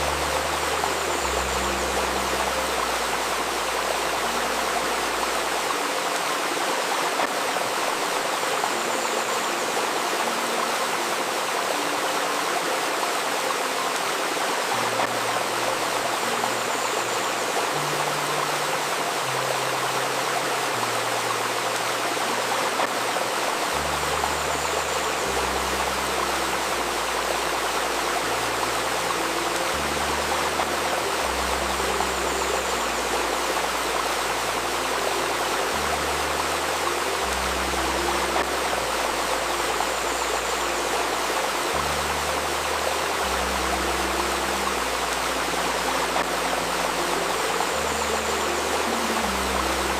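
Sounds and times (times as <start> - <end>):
low held synthesizer notes: 0.0 - 49.9
river babbling: 0.0 - 49.9.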